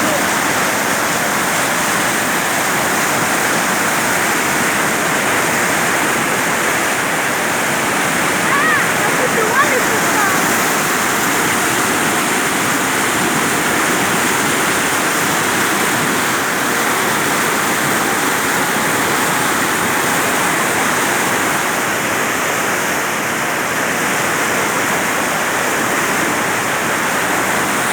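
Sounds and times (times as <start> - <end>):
rainwater rushing: 0.0 - 27.9.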